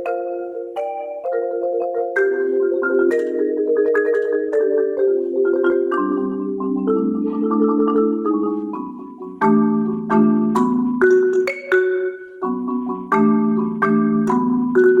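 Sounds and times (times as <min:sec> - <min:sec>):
solo marimba: 0:00.0 - 0:15.0.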